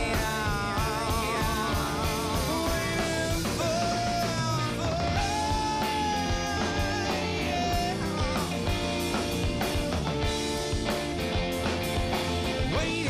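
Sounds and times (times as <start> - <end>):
man singing: 0.0 - 10.0, 12.5 - 13.0
bass guitar: 0.0 - 13.0
drum kit: 0.0 - 13.0
electric guitar: 0.0 - 13.0.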